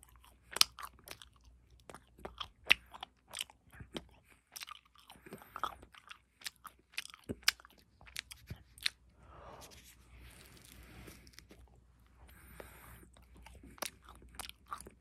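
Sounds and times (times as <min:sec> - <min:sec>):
wet crunching of chewing: 0:00.0 - 0:09.0, 0:10.3 - 0:15.0.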